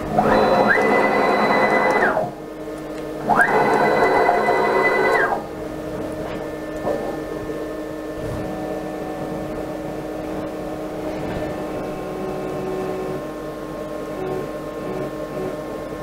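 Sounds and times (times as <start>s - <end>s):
steady low hum: 0.0s - 16.0s
stepper motors whining: 0.0s - 16.0s.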